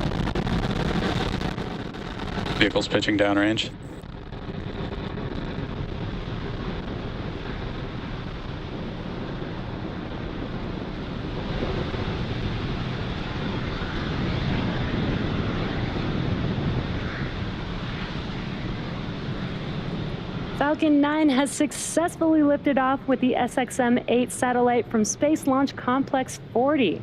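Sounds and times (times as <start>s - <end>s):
rocket engines rumbling: 0.0s - 27.0s.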